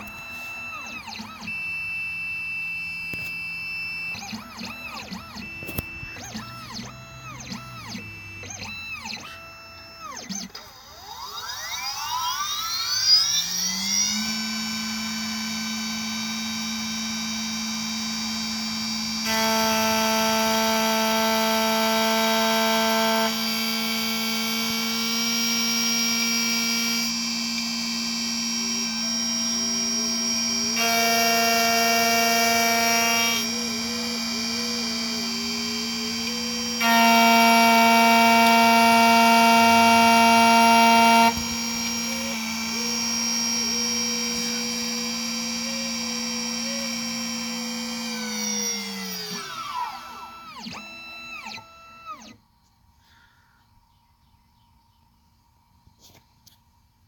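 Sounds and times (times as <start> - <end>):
key cutting machine whine: 0.0 - 52.5.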